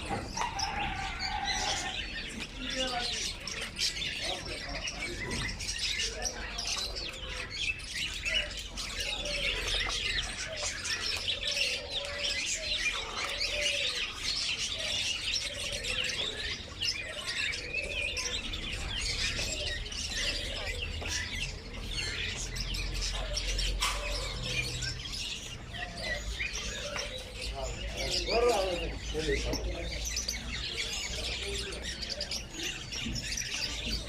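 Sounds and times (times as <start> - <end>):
caged birds chirping: 0.0 - 34.0
low wavering bird calls: 0.0 - 34.0.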